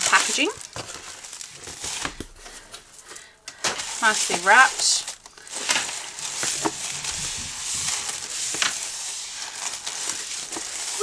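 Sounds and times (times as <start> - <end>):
paper wrap crinkling: 0.0 - 11.0.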